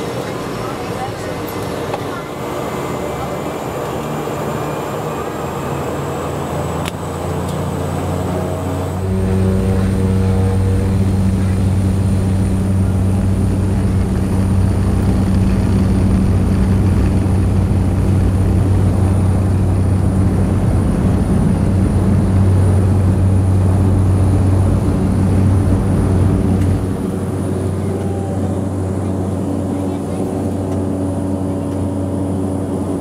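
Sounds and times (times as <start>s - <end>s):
high turbine whine: 0.0s - 33.0s
propeller drone: 0.0s - 33.0s.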